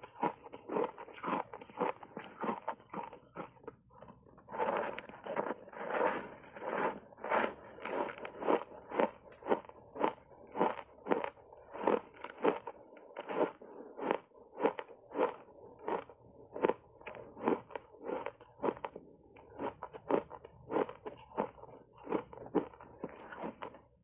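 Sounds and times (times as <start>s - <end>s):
ice crunching from chewing: 0.0s - 24.0s.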